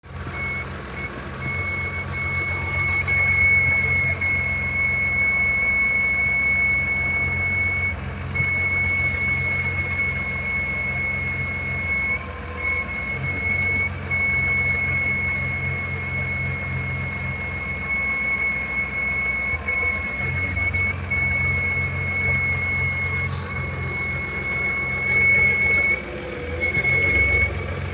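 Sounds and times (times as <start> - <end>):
car engine humming: 0.1 - 27.9
high-pitched squeal: 0.1 - 27.9.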